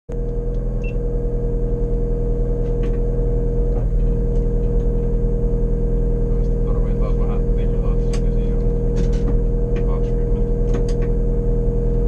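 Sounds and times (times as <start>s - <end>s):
rally car engine running steadily: 0.1s - 12.0s.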